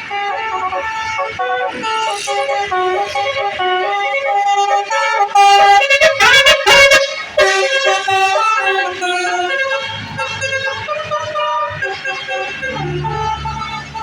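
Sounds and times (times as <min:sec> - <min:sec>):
multi-tone bus horn melody: 0:00.0 - 0:14.0.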